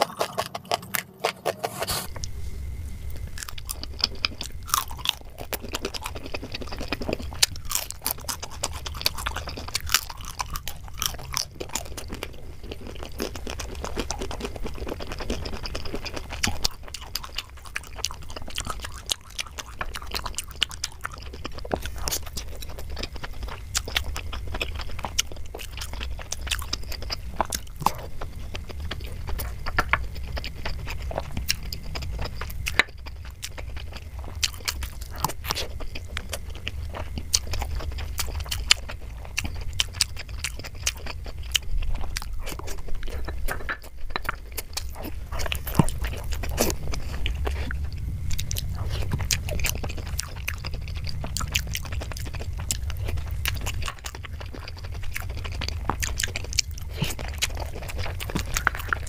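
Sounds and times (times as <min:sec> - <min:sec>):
close chewing and mouth sounds: 0:00.0 - 0:59.0
steady low hum: 0:00.0 - 0:59.0.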